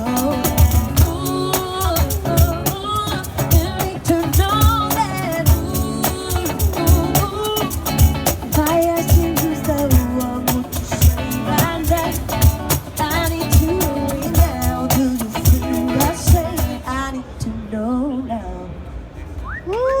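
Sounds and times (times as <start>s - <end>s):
pop-soul music over pa: 0.0s - 16.9s.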